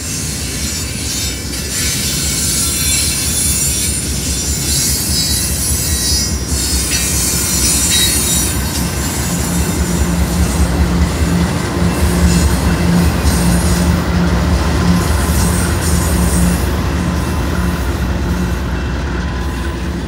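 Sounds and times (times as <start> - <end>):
diesel locomotive engine hum: 0.0 - 20.0
high-pitched wheel noise: 0.0 - 20.0
steel wheels rumbling on rail: 0.0 - 20.0.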